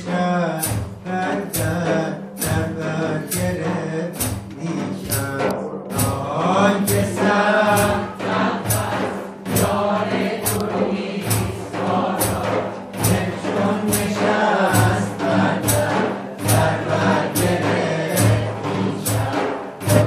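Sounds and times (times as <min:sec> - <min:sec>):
frame drum beat: 0:00.0 - 0:20.0.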